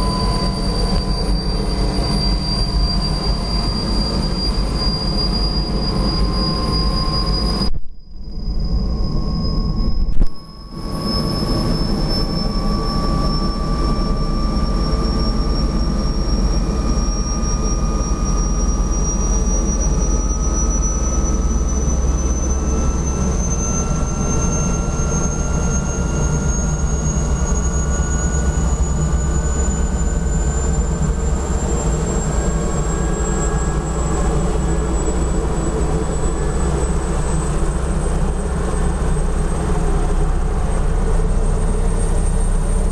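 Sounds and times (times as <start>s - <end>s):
helicopter engine and rotor: 0.0s - 42.9s.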